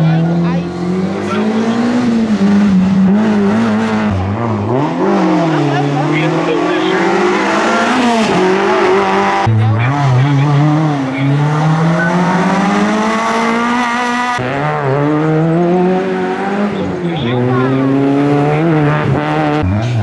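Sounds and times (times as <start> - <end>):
rally car engines at high revs: 0.0 - 20.0.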